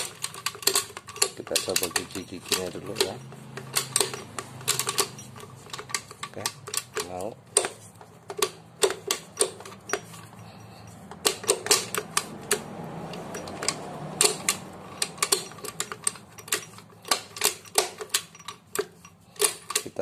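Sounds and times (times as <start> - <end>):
gearbox clicking metallically: 0.0 - 20.0.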